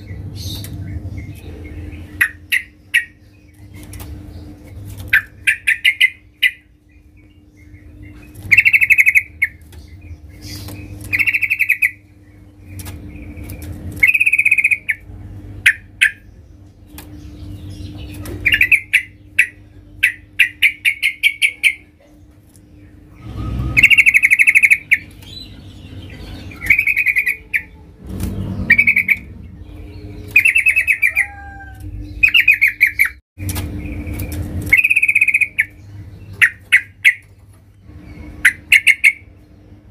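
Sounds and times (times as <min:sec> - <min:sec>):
bird chattering song: 0:00.0 - 0:39.9
steady low hum: 0:00.0 - 0:39.9.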